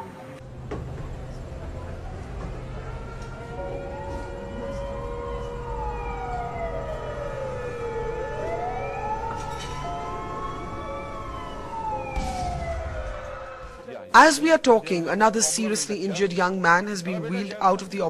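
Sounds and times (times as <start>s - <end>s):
siren wailing: 1.5s - 18.0s.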